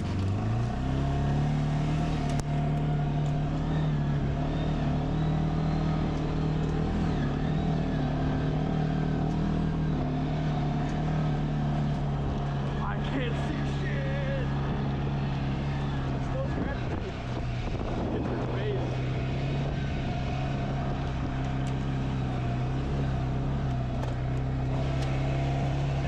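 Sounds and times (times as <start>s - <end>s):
vehicle engine accelerating: 0.0s - 26.0s.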